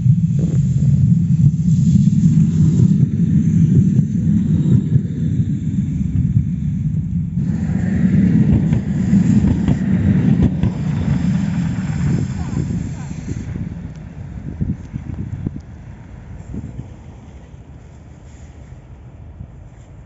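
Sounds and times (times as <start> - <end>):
tram wheels rumbling on rail: 0.0 - 20.0
tram whine: 0.0 - 20.0.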